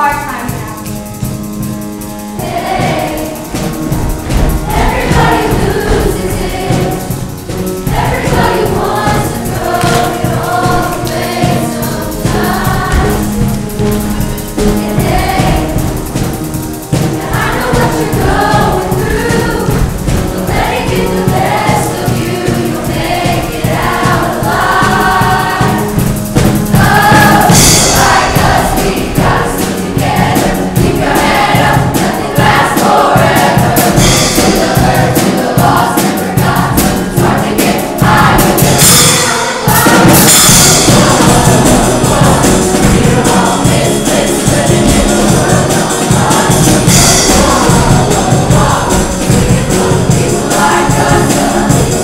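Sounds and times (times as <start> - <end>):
accompanying music: 0.0 - 52.0
choir singing in chorus: 1.5 - 52.0.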